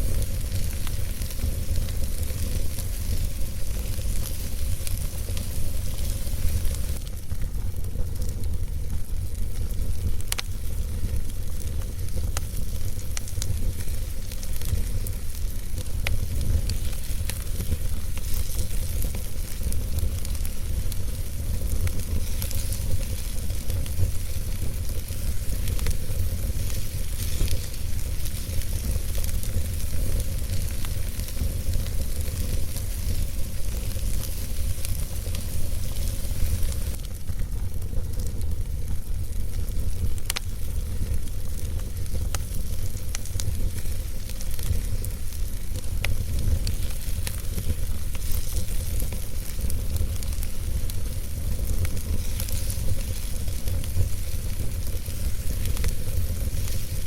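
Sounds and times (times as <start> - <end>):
fire flames hissing and rumbling: 0.0 - 57.0
logs crackling and popping: 0.0 - 57.0.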